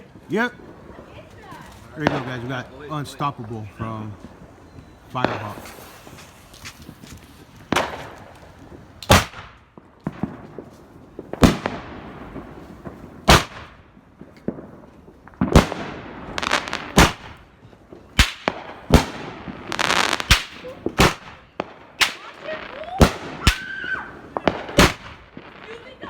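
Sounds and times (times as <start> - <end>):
firework bangs: 0.2 - 26.0
crackle and hiss of bursts: 4.0 - 26.0.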